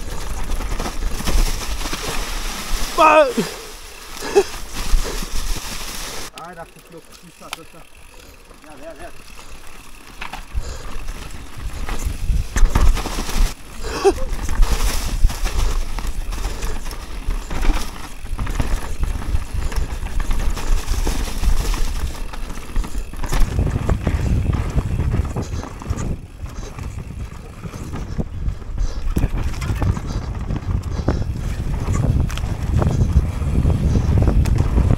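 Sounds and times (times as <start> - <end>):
bike rattling over bumps: 0.0 - 34.9
bike tyres rolling over dirt: 0.0 - 34.9.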